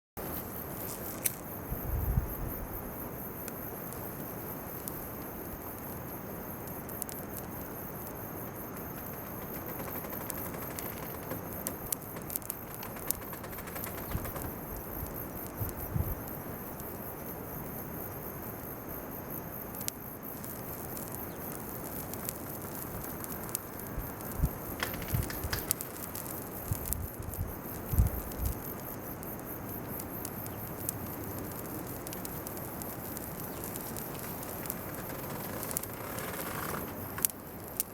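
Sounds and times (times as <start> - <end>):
bonfire crackling and popping: 0.2 - 37.9
insects chirring: 0.2 - 37.9.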